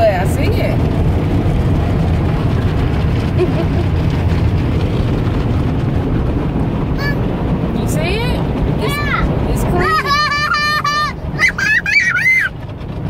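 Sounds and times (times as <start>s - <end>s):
car wash rushing: 0.0s - 13.0s.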